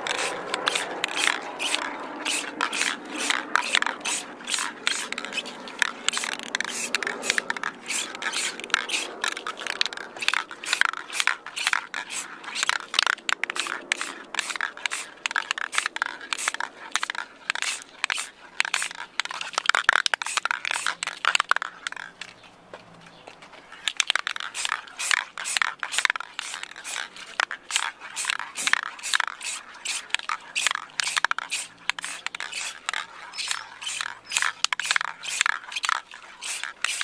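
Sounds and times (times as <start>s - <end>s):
spray can ball rattling: 0.0s - 37.0s.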